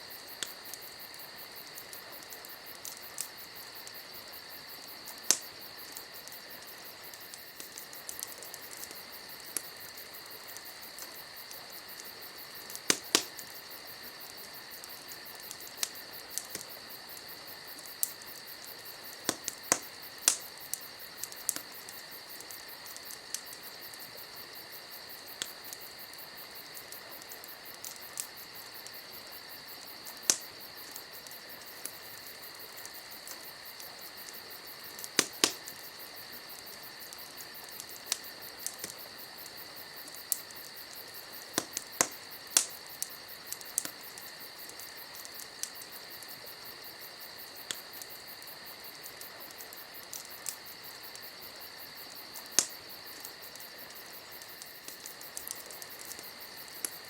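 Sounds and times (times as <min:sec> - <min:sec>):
campfire crackling and popping: 0:00.0 - 0:57.0
insects chirring: 0:00.0 - 0:57.0.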